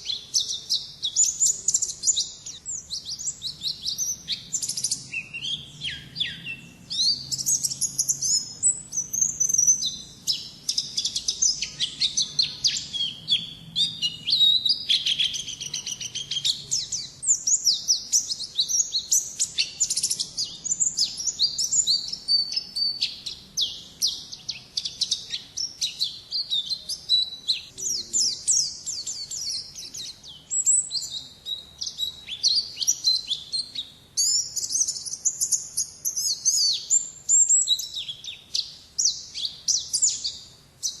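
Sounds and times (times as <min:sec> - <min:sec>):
bird twittering and trilling: 0:00.0 - 0:41.0.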